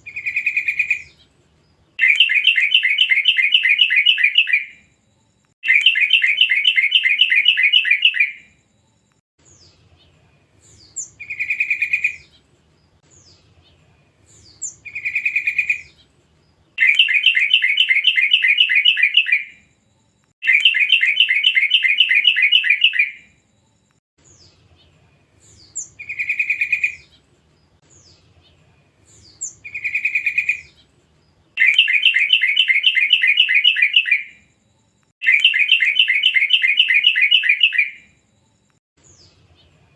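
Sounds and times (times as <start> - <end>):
faint high chirps: 2.0 - 12.4, 16.8 - 30.9, 31.6 - 39.9.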